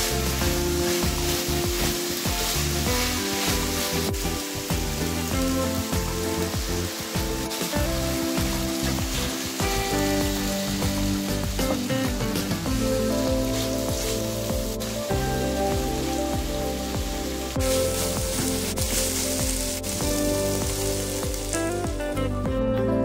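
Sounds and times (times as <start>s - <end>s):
food sizzling in frying pan: 0.0s - 22.4s
background music: 0.0s - 23.0s.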